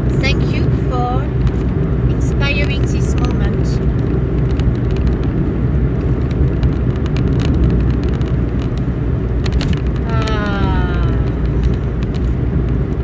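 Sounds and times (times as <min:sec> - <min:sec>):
car rumble from inside cabin: 0:00.0 - 0:13.0.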